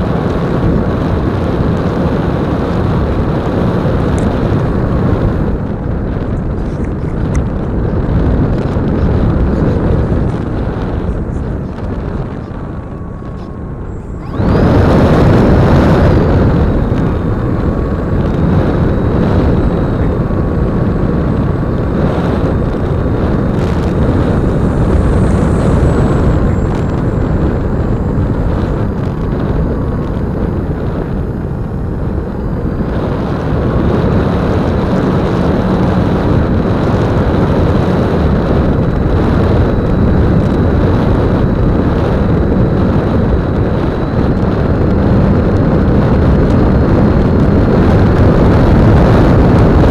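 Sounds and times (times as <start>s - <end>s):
electric motor high whine: 0.0s - 49.9s
wind rushing over microphone: 0.0s - 49.9s.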